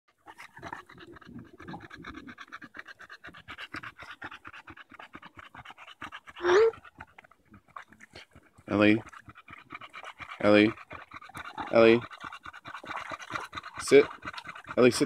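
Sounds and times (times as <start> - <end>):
dog panting fast: 0.2 - 15.0.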